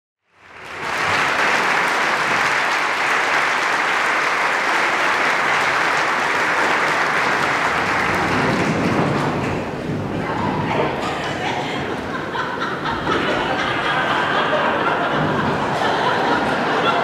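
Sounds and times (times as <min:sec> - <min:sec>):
audience applauding: 0:00.4 - 0:17.0.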